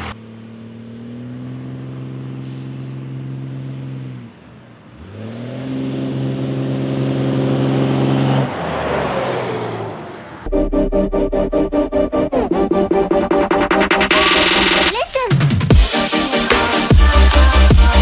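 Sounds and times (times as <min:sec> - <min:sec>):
diesel engine accelerating: 0:00.0 - 0:18.0.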